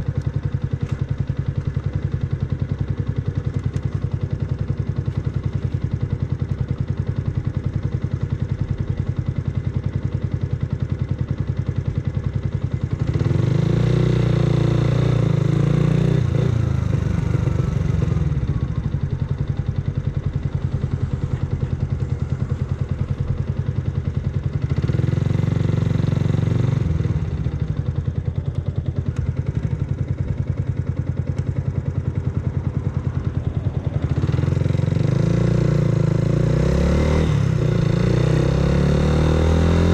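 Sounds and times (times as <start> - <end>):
motorcycle engine pulsing: 0.0 - 39.9.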